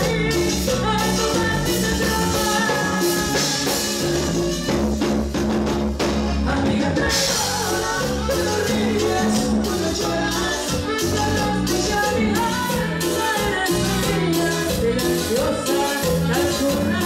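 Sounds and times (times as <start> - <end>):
woman singing into a microphone: 0.0 - 4.3, 6.3 - 17.0
drum kit: 0.0 - 17.0
electric bass: 0.0 - 17.0
keyboard: 0.0 - 17.0.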